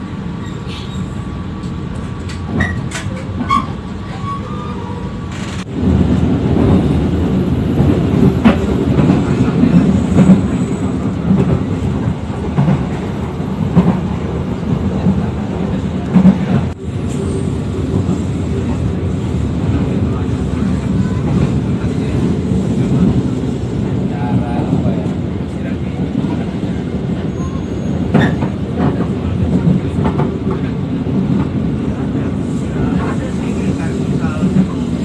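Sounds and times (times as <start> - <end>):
train rumble inside carriage: 0.0 - 35.0.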